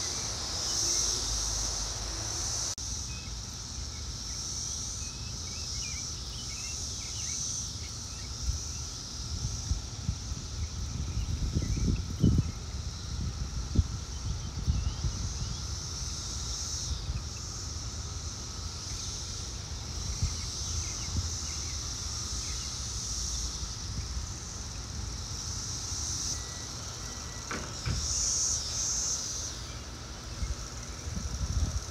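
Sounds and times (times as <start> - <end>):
cicadas droning: 0.0 - 31.9.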